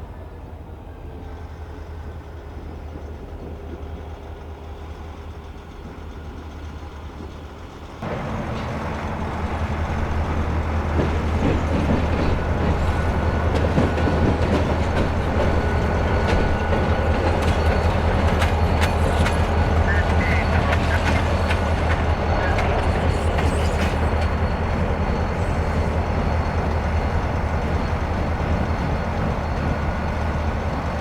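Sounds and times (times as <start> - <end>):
diesel freight train rumbling: 0.0 - 31.0
wheels clicking over rail joints: 5.4 - 31.0.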